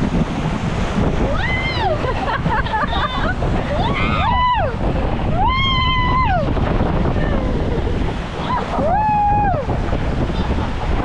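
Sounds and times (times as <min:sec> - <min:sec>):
splashing water: 0:00.0 - 0:11.0.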